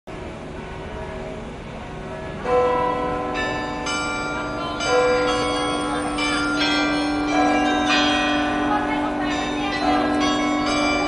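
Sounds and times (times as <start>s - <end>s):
church bells ringing: 0.6s - 11.0s.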